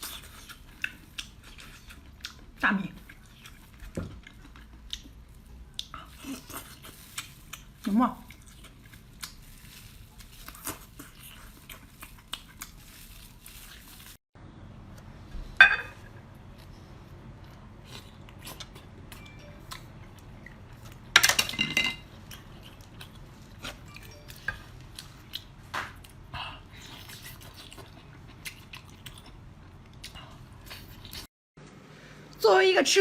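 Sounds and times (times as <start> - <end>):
chewing and biting seafood: 0.0 - 14.2, 16.6 - 21.1, 22.1 - 31.3.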